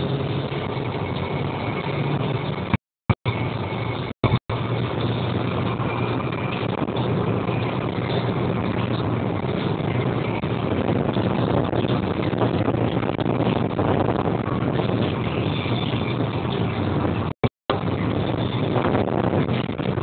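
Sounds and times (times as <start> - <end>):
low engine drone: 0.0 - 20.0
tyres rumbling on rough tarmac: 0.0 - 20.0.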